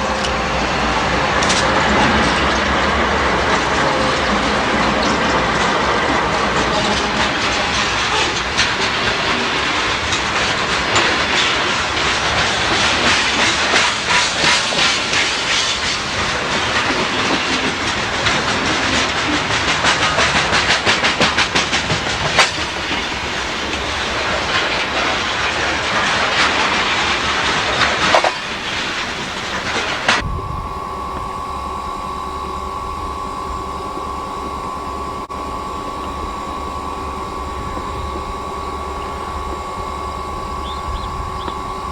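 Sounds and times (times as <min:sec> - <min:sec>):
faint high whine: 0:00.0 - 0:41.9
steady hum: 0:00.0 - 0:41.9
train wheels clacking on rails: 0:00.0 - 0:41.9.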